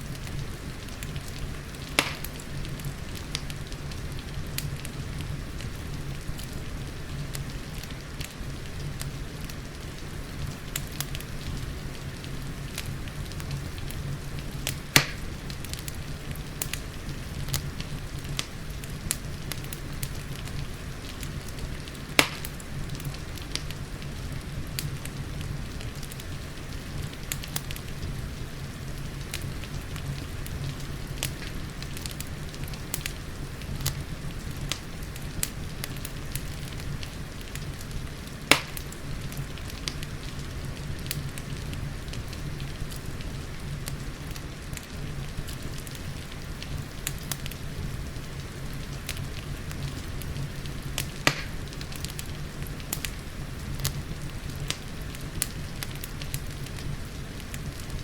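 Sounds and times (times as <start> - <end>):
rain pattering: 0.0 - 58.0
wood fire crackling: 0.0 - 58.0
sharp pops from fire: 0.1 - 6.6, 7.3 - 28.2, 29.0 - 58.0.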